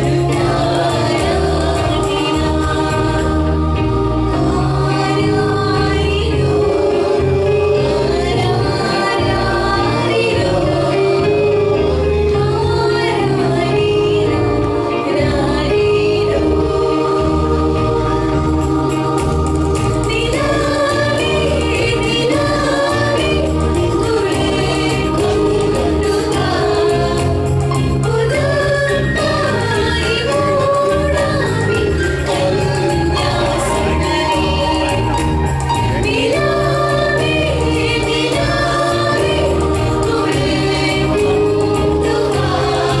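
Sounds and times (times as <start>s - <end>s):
choir singing: 0.0s - 43.0s
low bass notes: 0.0s - 43.0s.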